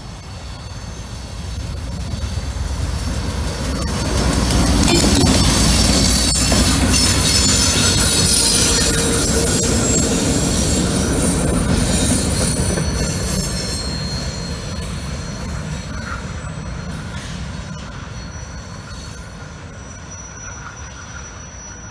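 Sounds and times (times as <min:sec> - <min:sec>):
freight train passing: 0:00.0 - 0:21.9
high-pitched wheel squeal: 0:03.8 - 0:21.9.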